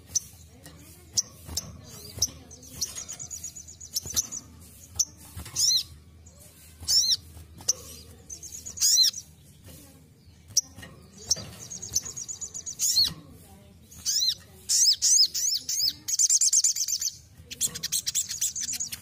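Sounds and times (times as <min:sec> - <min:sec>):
bird chips and trills: 0:00.0 - 0:19.0.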